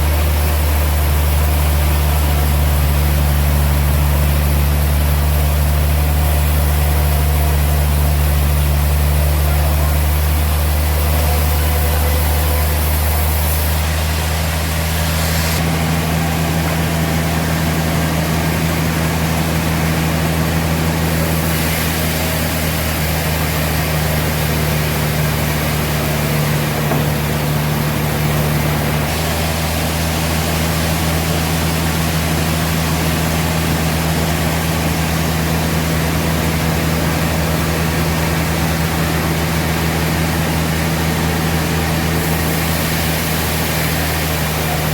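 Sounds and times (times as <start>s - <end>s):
sawmill machinery hum: 0.0s - 44.9s.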